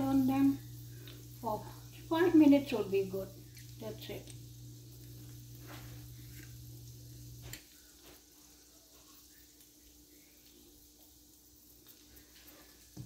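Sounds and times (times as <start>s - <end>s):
low steady hum: 0.0s - 12.7s
eggs sizzling in oil: 0.0s - 13.0s.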